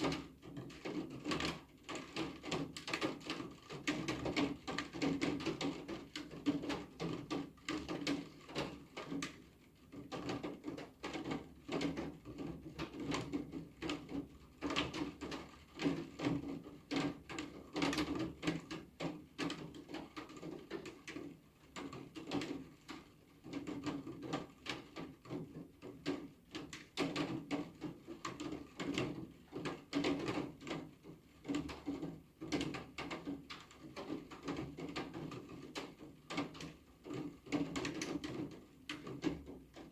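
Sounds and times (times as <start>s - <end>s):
rain drops on hard surface: 0.0s - 39.9s.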